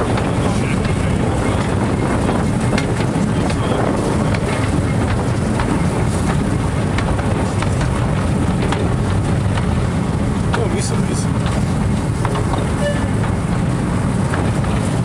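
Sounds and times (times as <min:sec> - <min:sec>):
train rumbling on track: 0:00.0 - 0:15.0
wheel clicks on rails: 0:00.0 - 0:15.0
wind buffeting microphone: 0:00.0 - 0:15.0.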